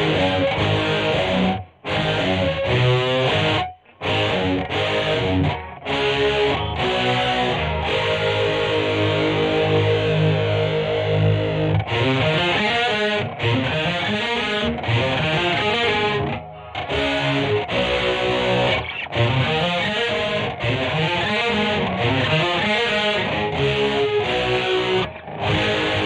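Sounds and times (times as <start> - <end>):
distorted electric guitar riffs: 0.0 - 26.0.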